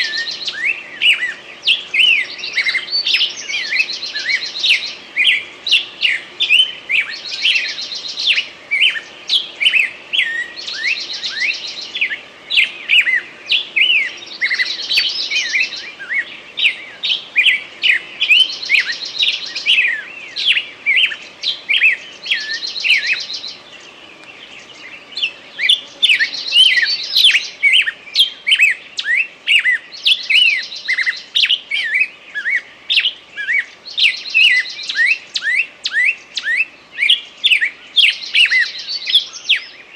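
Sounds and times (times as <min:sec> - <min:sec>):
buzzy bird trill: 0:00.0 - 0:39.8
songbirds chirping: 0:00.0 - 0:39.9.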